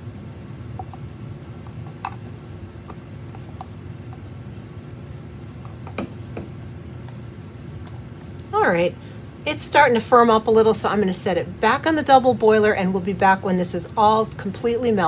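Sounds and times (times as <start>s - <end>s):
low hum: 0.0s - 14.3s.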